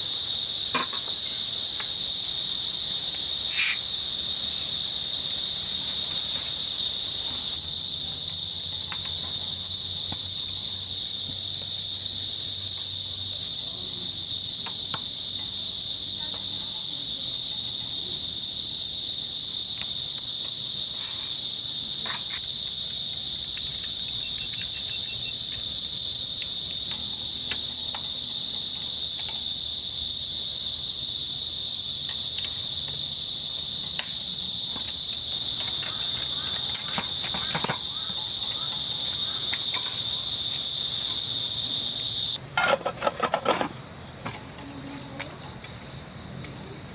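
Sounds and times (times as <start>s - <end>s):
insects shrilling: 0.0s - 46.9s.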